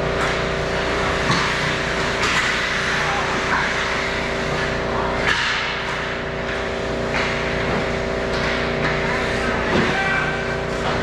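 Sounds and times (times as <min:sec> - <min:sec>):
steady hum: 0:00.0 - 0:11.0
skate blades scraping ice: 0:00.2 - 0:11.0.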